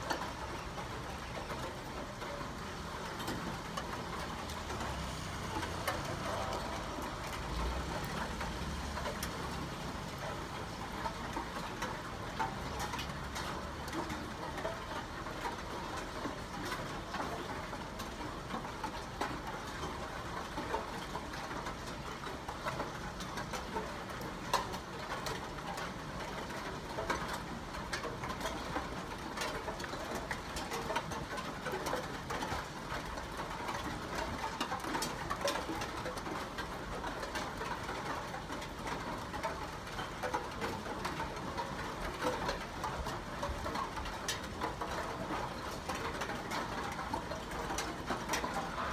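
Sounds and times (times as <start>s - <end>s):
raindrops ticking close by: 0.0s - 48.9s
steady rain hiss: 0.0s - 48.9s.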